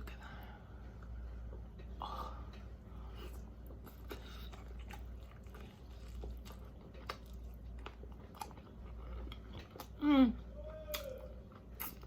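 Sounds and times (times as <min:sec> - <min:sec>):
person chewing food: 0:00.9 - 0:10.0, 0:10.9 - 0:12.0.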